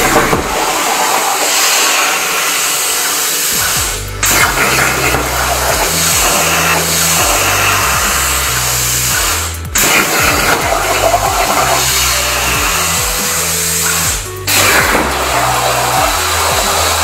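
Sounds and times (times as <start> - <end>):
background music with bass line: 0.0 - 0.8, 3.4 - 17.0
plasma cutter arc hissing: 0.0 - 17.0.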